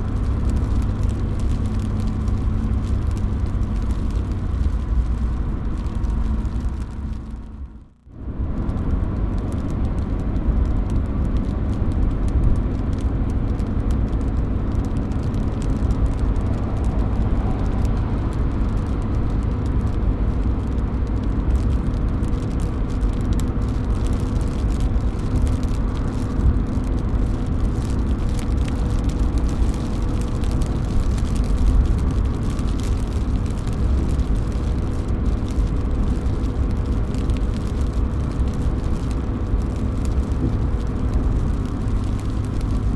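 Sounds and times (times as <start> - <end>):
water dripping off a roof: 0.0 - 7.5, 8.5 - 42.9
steady rain: 0.0 - 42.9.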